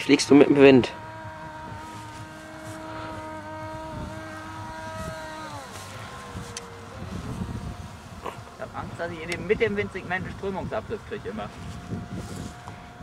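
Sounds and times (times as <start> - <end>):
electric motor and propeller whining: 0.0 - 13.0
wind rumble on microphone: 0.0 - 13.0.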